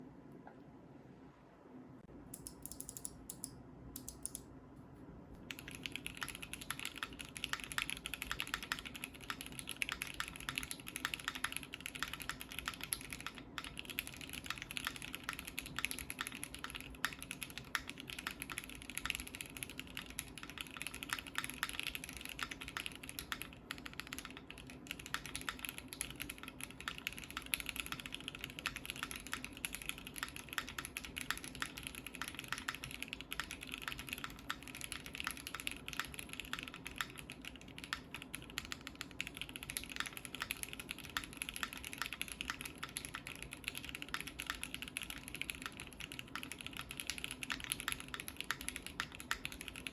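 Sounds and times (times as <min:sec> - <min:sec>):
mechanical keyboard typing: 0:02.4 - 0:04.4, 0:05.4 - 0:49.9.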